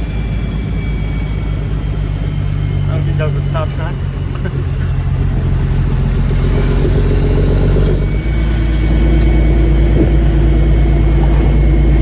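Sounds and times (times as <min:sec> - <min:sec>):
diesel truck engine pulling away: 0:00.0 - 0:12.0.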